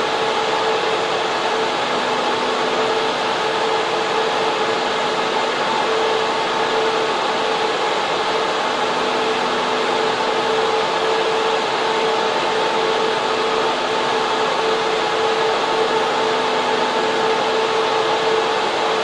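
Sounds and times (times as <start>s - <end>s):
constant whine: 0.0s - 19.0s
server cooling fans rushing: 0.0s - 19.0s.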